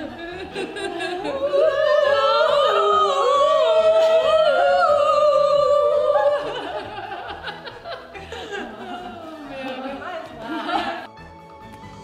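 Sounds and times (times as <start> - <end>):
women singing together: 0.0 - 11.1.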